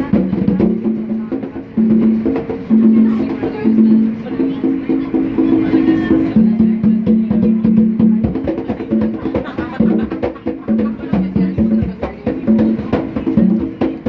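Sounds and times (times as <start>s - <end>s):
drummers playing fast rhythm: 0.0s - 14.0s.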